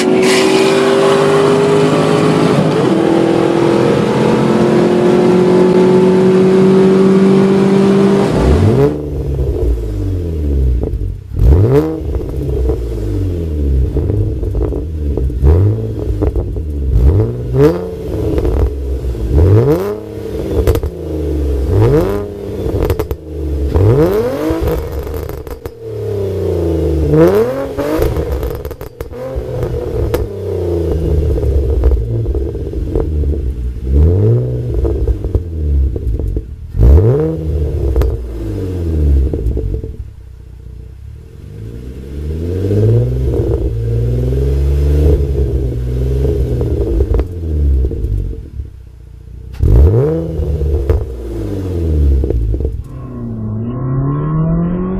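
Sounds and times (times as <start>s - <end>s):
car engine free-revving: 0.0s - 40.2s, 41.2s - 48.8s, 49.4s - 54.9s.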